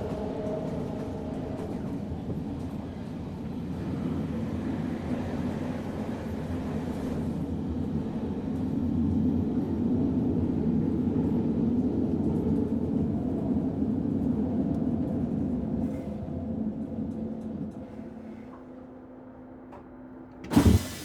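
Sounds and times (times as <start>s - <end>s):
train carriage rumbling on rails: 0.0s - 21.0s.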